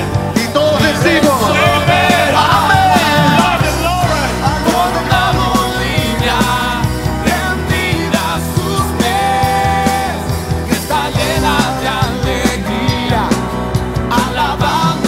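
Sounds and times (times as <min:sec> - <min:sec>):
drums and bass: 0:00.0 - 0:15.0
rock worship song: 0:00.0 - 0:15.0
person singing: 0:00.3 - 0:15.0.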